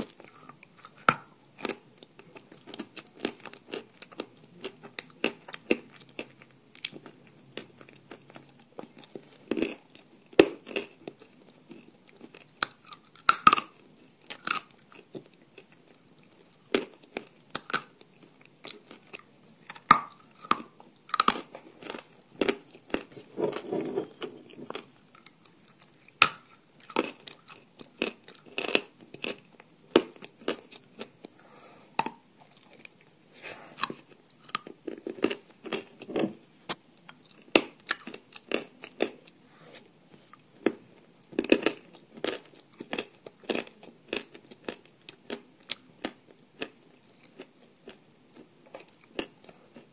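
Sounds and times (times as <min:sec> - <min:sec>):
person chewing crunchy clay: 0:00.0 - 0:49.9.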